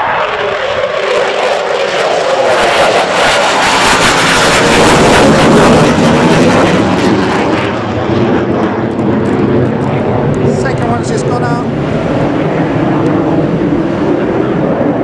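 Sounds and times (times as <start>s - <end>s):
fighter jet taking off: 0.0s - 15.0s.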